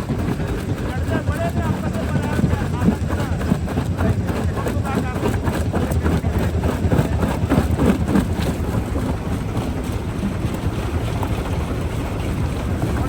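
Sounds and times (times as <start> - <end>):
rock-crushing machinery rumbling: 0.0 - 13.0.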